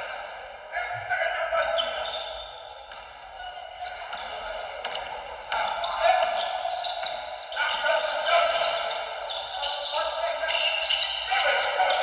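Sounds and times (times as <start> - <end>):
players' voices echoing: 0.0 - 12.0.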